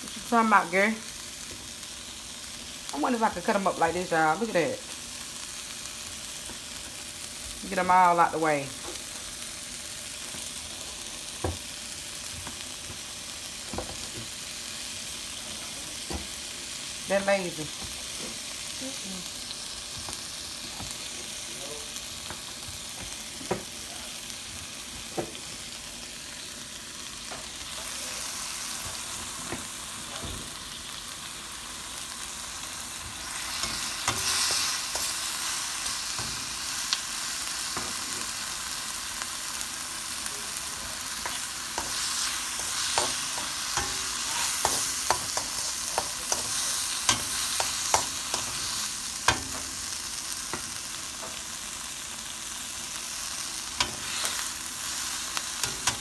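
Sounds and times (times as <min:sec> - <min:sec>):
vegetables sizzling in a wok: 0:00.0 - 0:56.0.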